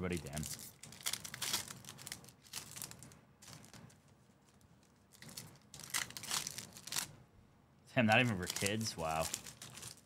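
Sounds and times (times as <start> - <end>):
wrapper crinkling and tearing: 0.0 - 3.9, 4.5 - 7.1, 8.1 - 10.0.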